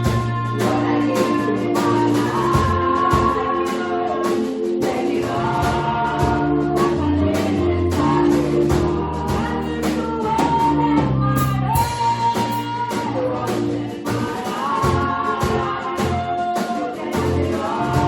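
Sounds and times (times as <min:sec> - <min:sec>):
band playing steady beat: 0:00.0 - 0:18.0
choir singing gospel song: 0:00.0 - 0:18.0.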